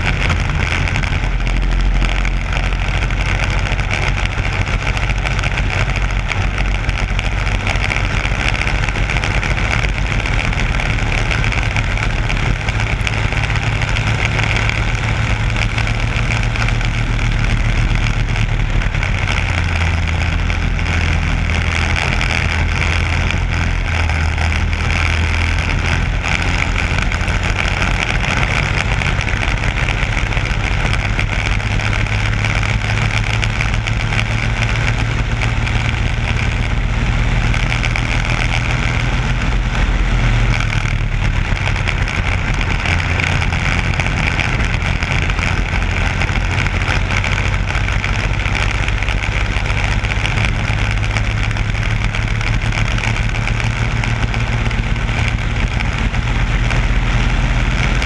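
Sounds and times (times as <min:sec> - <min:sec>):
kart engine at racing speed: 0:00.0 - 0:58.0.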